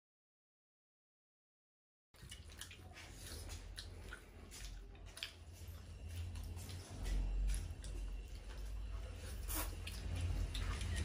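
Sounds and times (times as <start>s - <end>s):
low steady hum: 2.2s - 11.0s
people chewing and lip-smacking: 2.2s - 11.0s.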